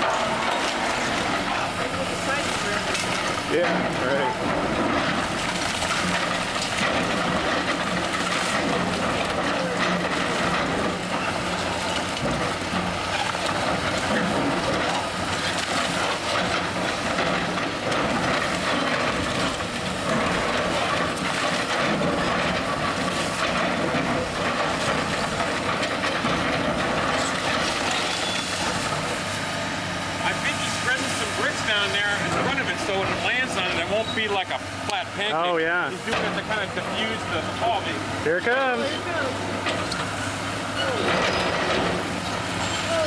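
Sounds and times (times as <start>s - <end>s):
rubble clanking and rattling: 0.0s - 29.4s, 31.0s - 43.0s
heavy machine engine running: 0.0s - 43.0s.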